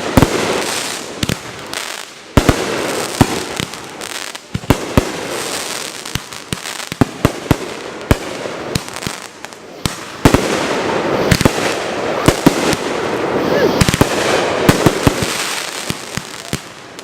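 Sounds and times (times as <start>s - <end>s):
fireworks crackling: 0.0s - 17.0s
fireworks shells exploding: 0.0s - 17.0s.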